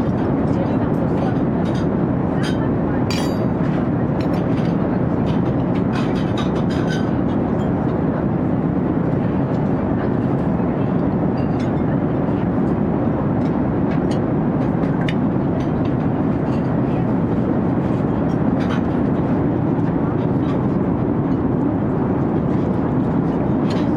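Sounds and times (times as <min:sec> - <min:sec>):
airliner cabin roar: 0:00.0 - 0:23.9.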